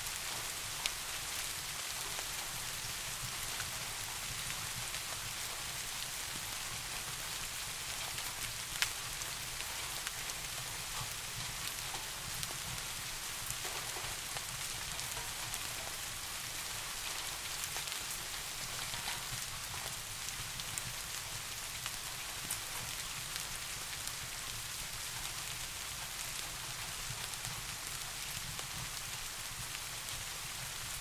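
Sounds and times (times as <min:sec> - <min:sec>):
faint raindrop ticks: 0:00.0 - 0:31.0
soft rain hissing: 0:00.0 - 0:31.0.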